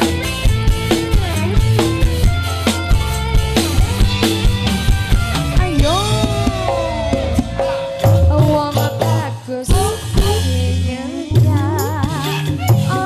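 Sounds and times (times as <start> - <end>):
bass: 0.0 - 13.0
drums: 0.0 - 13.0
electric guitar lead: 0.0 - 13.0
hand percussion: 0.0 - 13.0.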